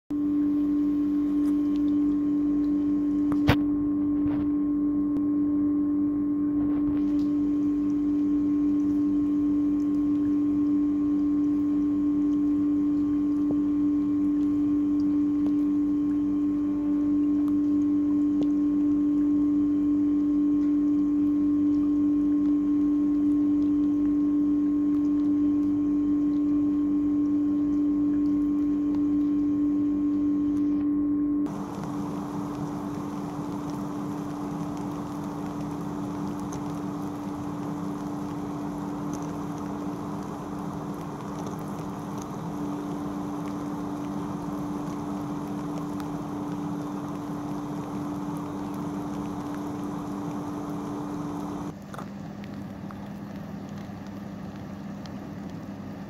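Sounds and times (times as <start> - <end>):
steady low hum: 0.1 - 54.7.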